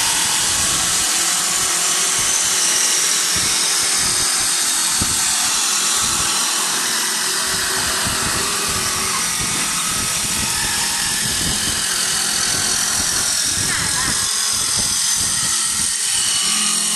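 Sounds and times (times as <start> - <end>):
wood lathe cutting: 0.0 - 16.9.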